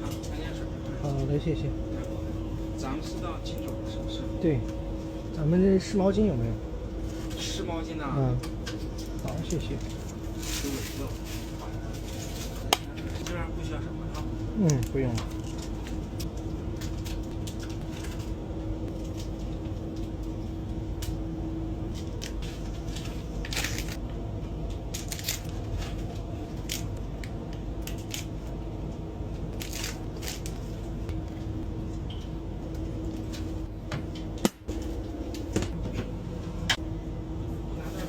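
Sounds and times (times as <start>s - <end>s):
train cabin running hum: 0.0s - 38.0s.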